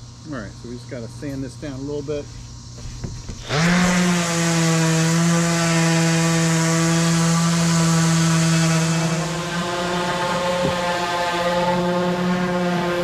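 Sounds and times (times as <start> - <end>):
orbital sander motor hum: 1.6 - 13.0.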